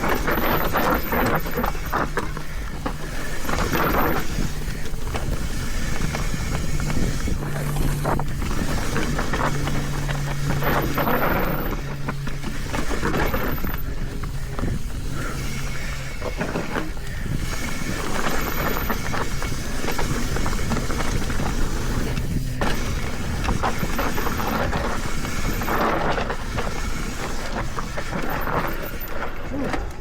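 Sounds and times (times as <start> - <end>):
wind on microphone: 0.0 - 28.7
bike rattling and clattering: 0.0 - 30.0
tyres over rock and dirt: 0.0 - 30.0.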